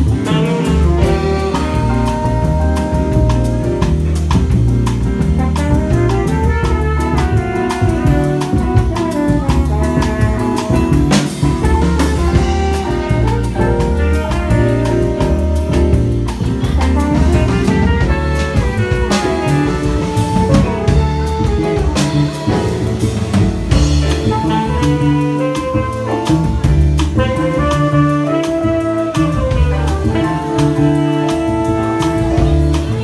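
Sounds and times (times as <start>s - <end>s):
keyboard solo: 0.0s - 33.0s
walking bass: 0.0s - 33.0s.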